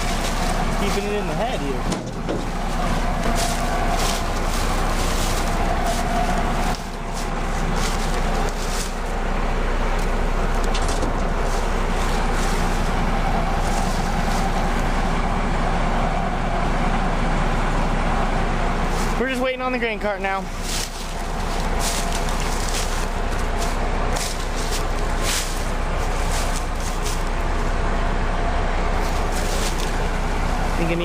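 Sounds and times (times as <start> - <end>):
combine harvester humming: 0.0 - 31.0.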